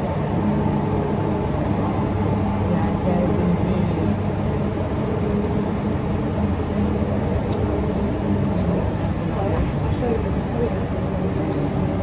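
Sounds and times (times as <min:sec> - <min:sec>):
faint hum: 0:00.0 - 0:12.0
train rumble inside carriage: 0:00.0 - 0:12.0.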